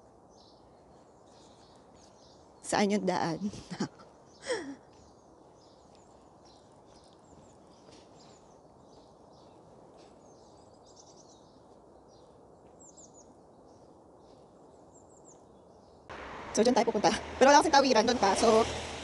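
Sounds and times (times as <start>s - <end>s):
birds chirping: 0.0s - 19.0s
low steady background noise: 0.0s - 19.0s.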